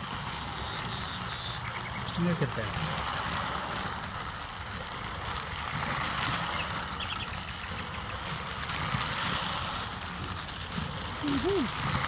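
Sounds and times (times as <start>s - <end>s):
toy train motor running: 0.0s - 12.0s.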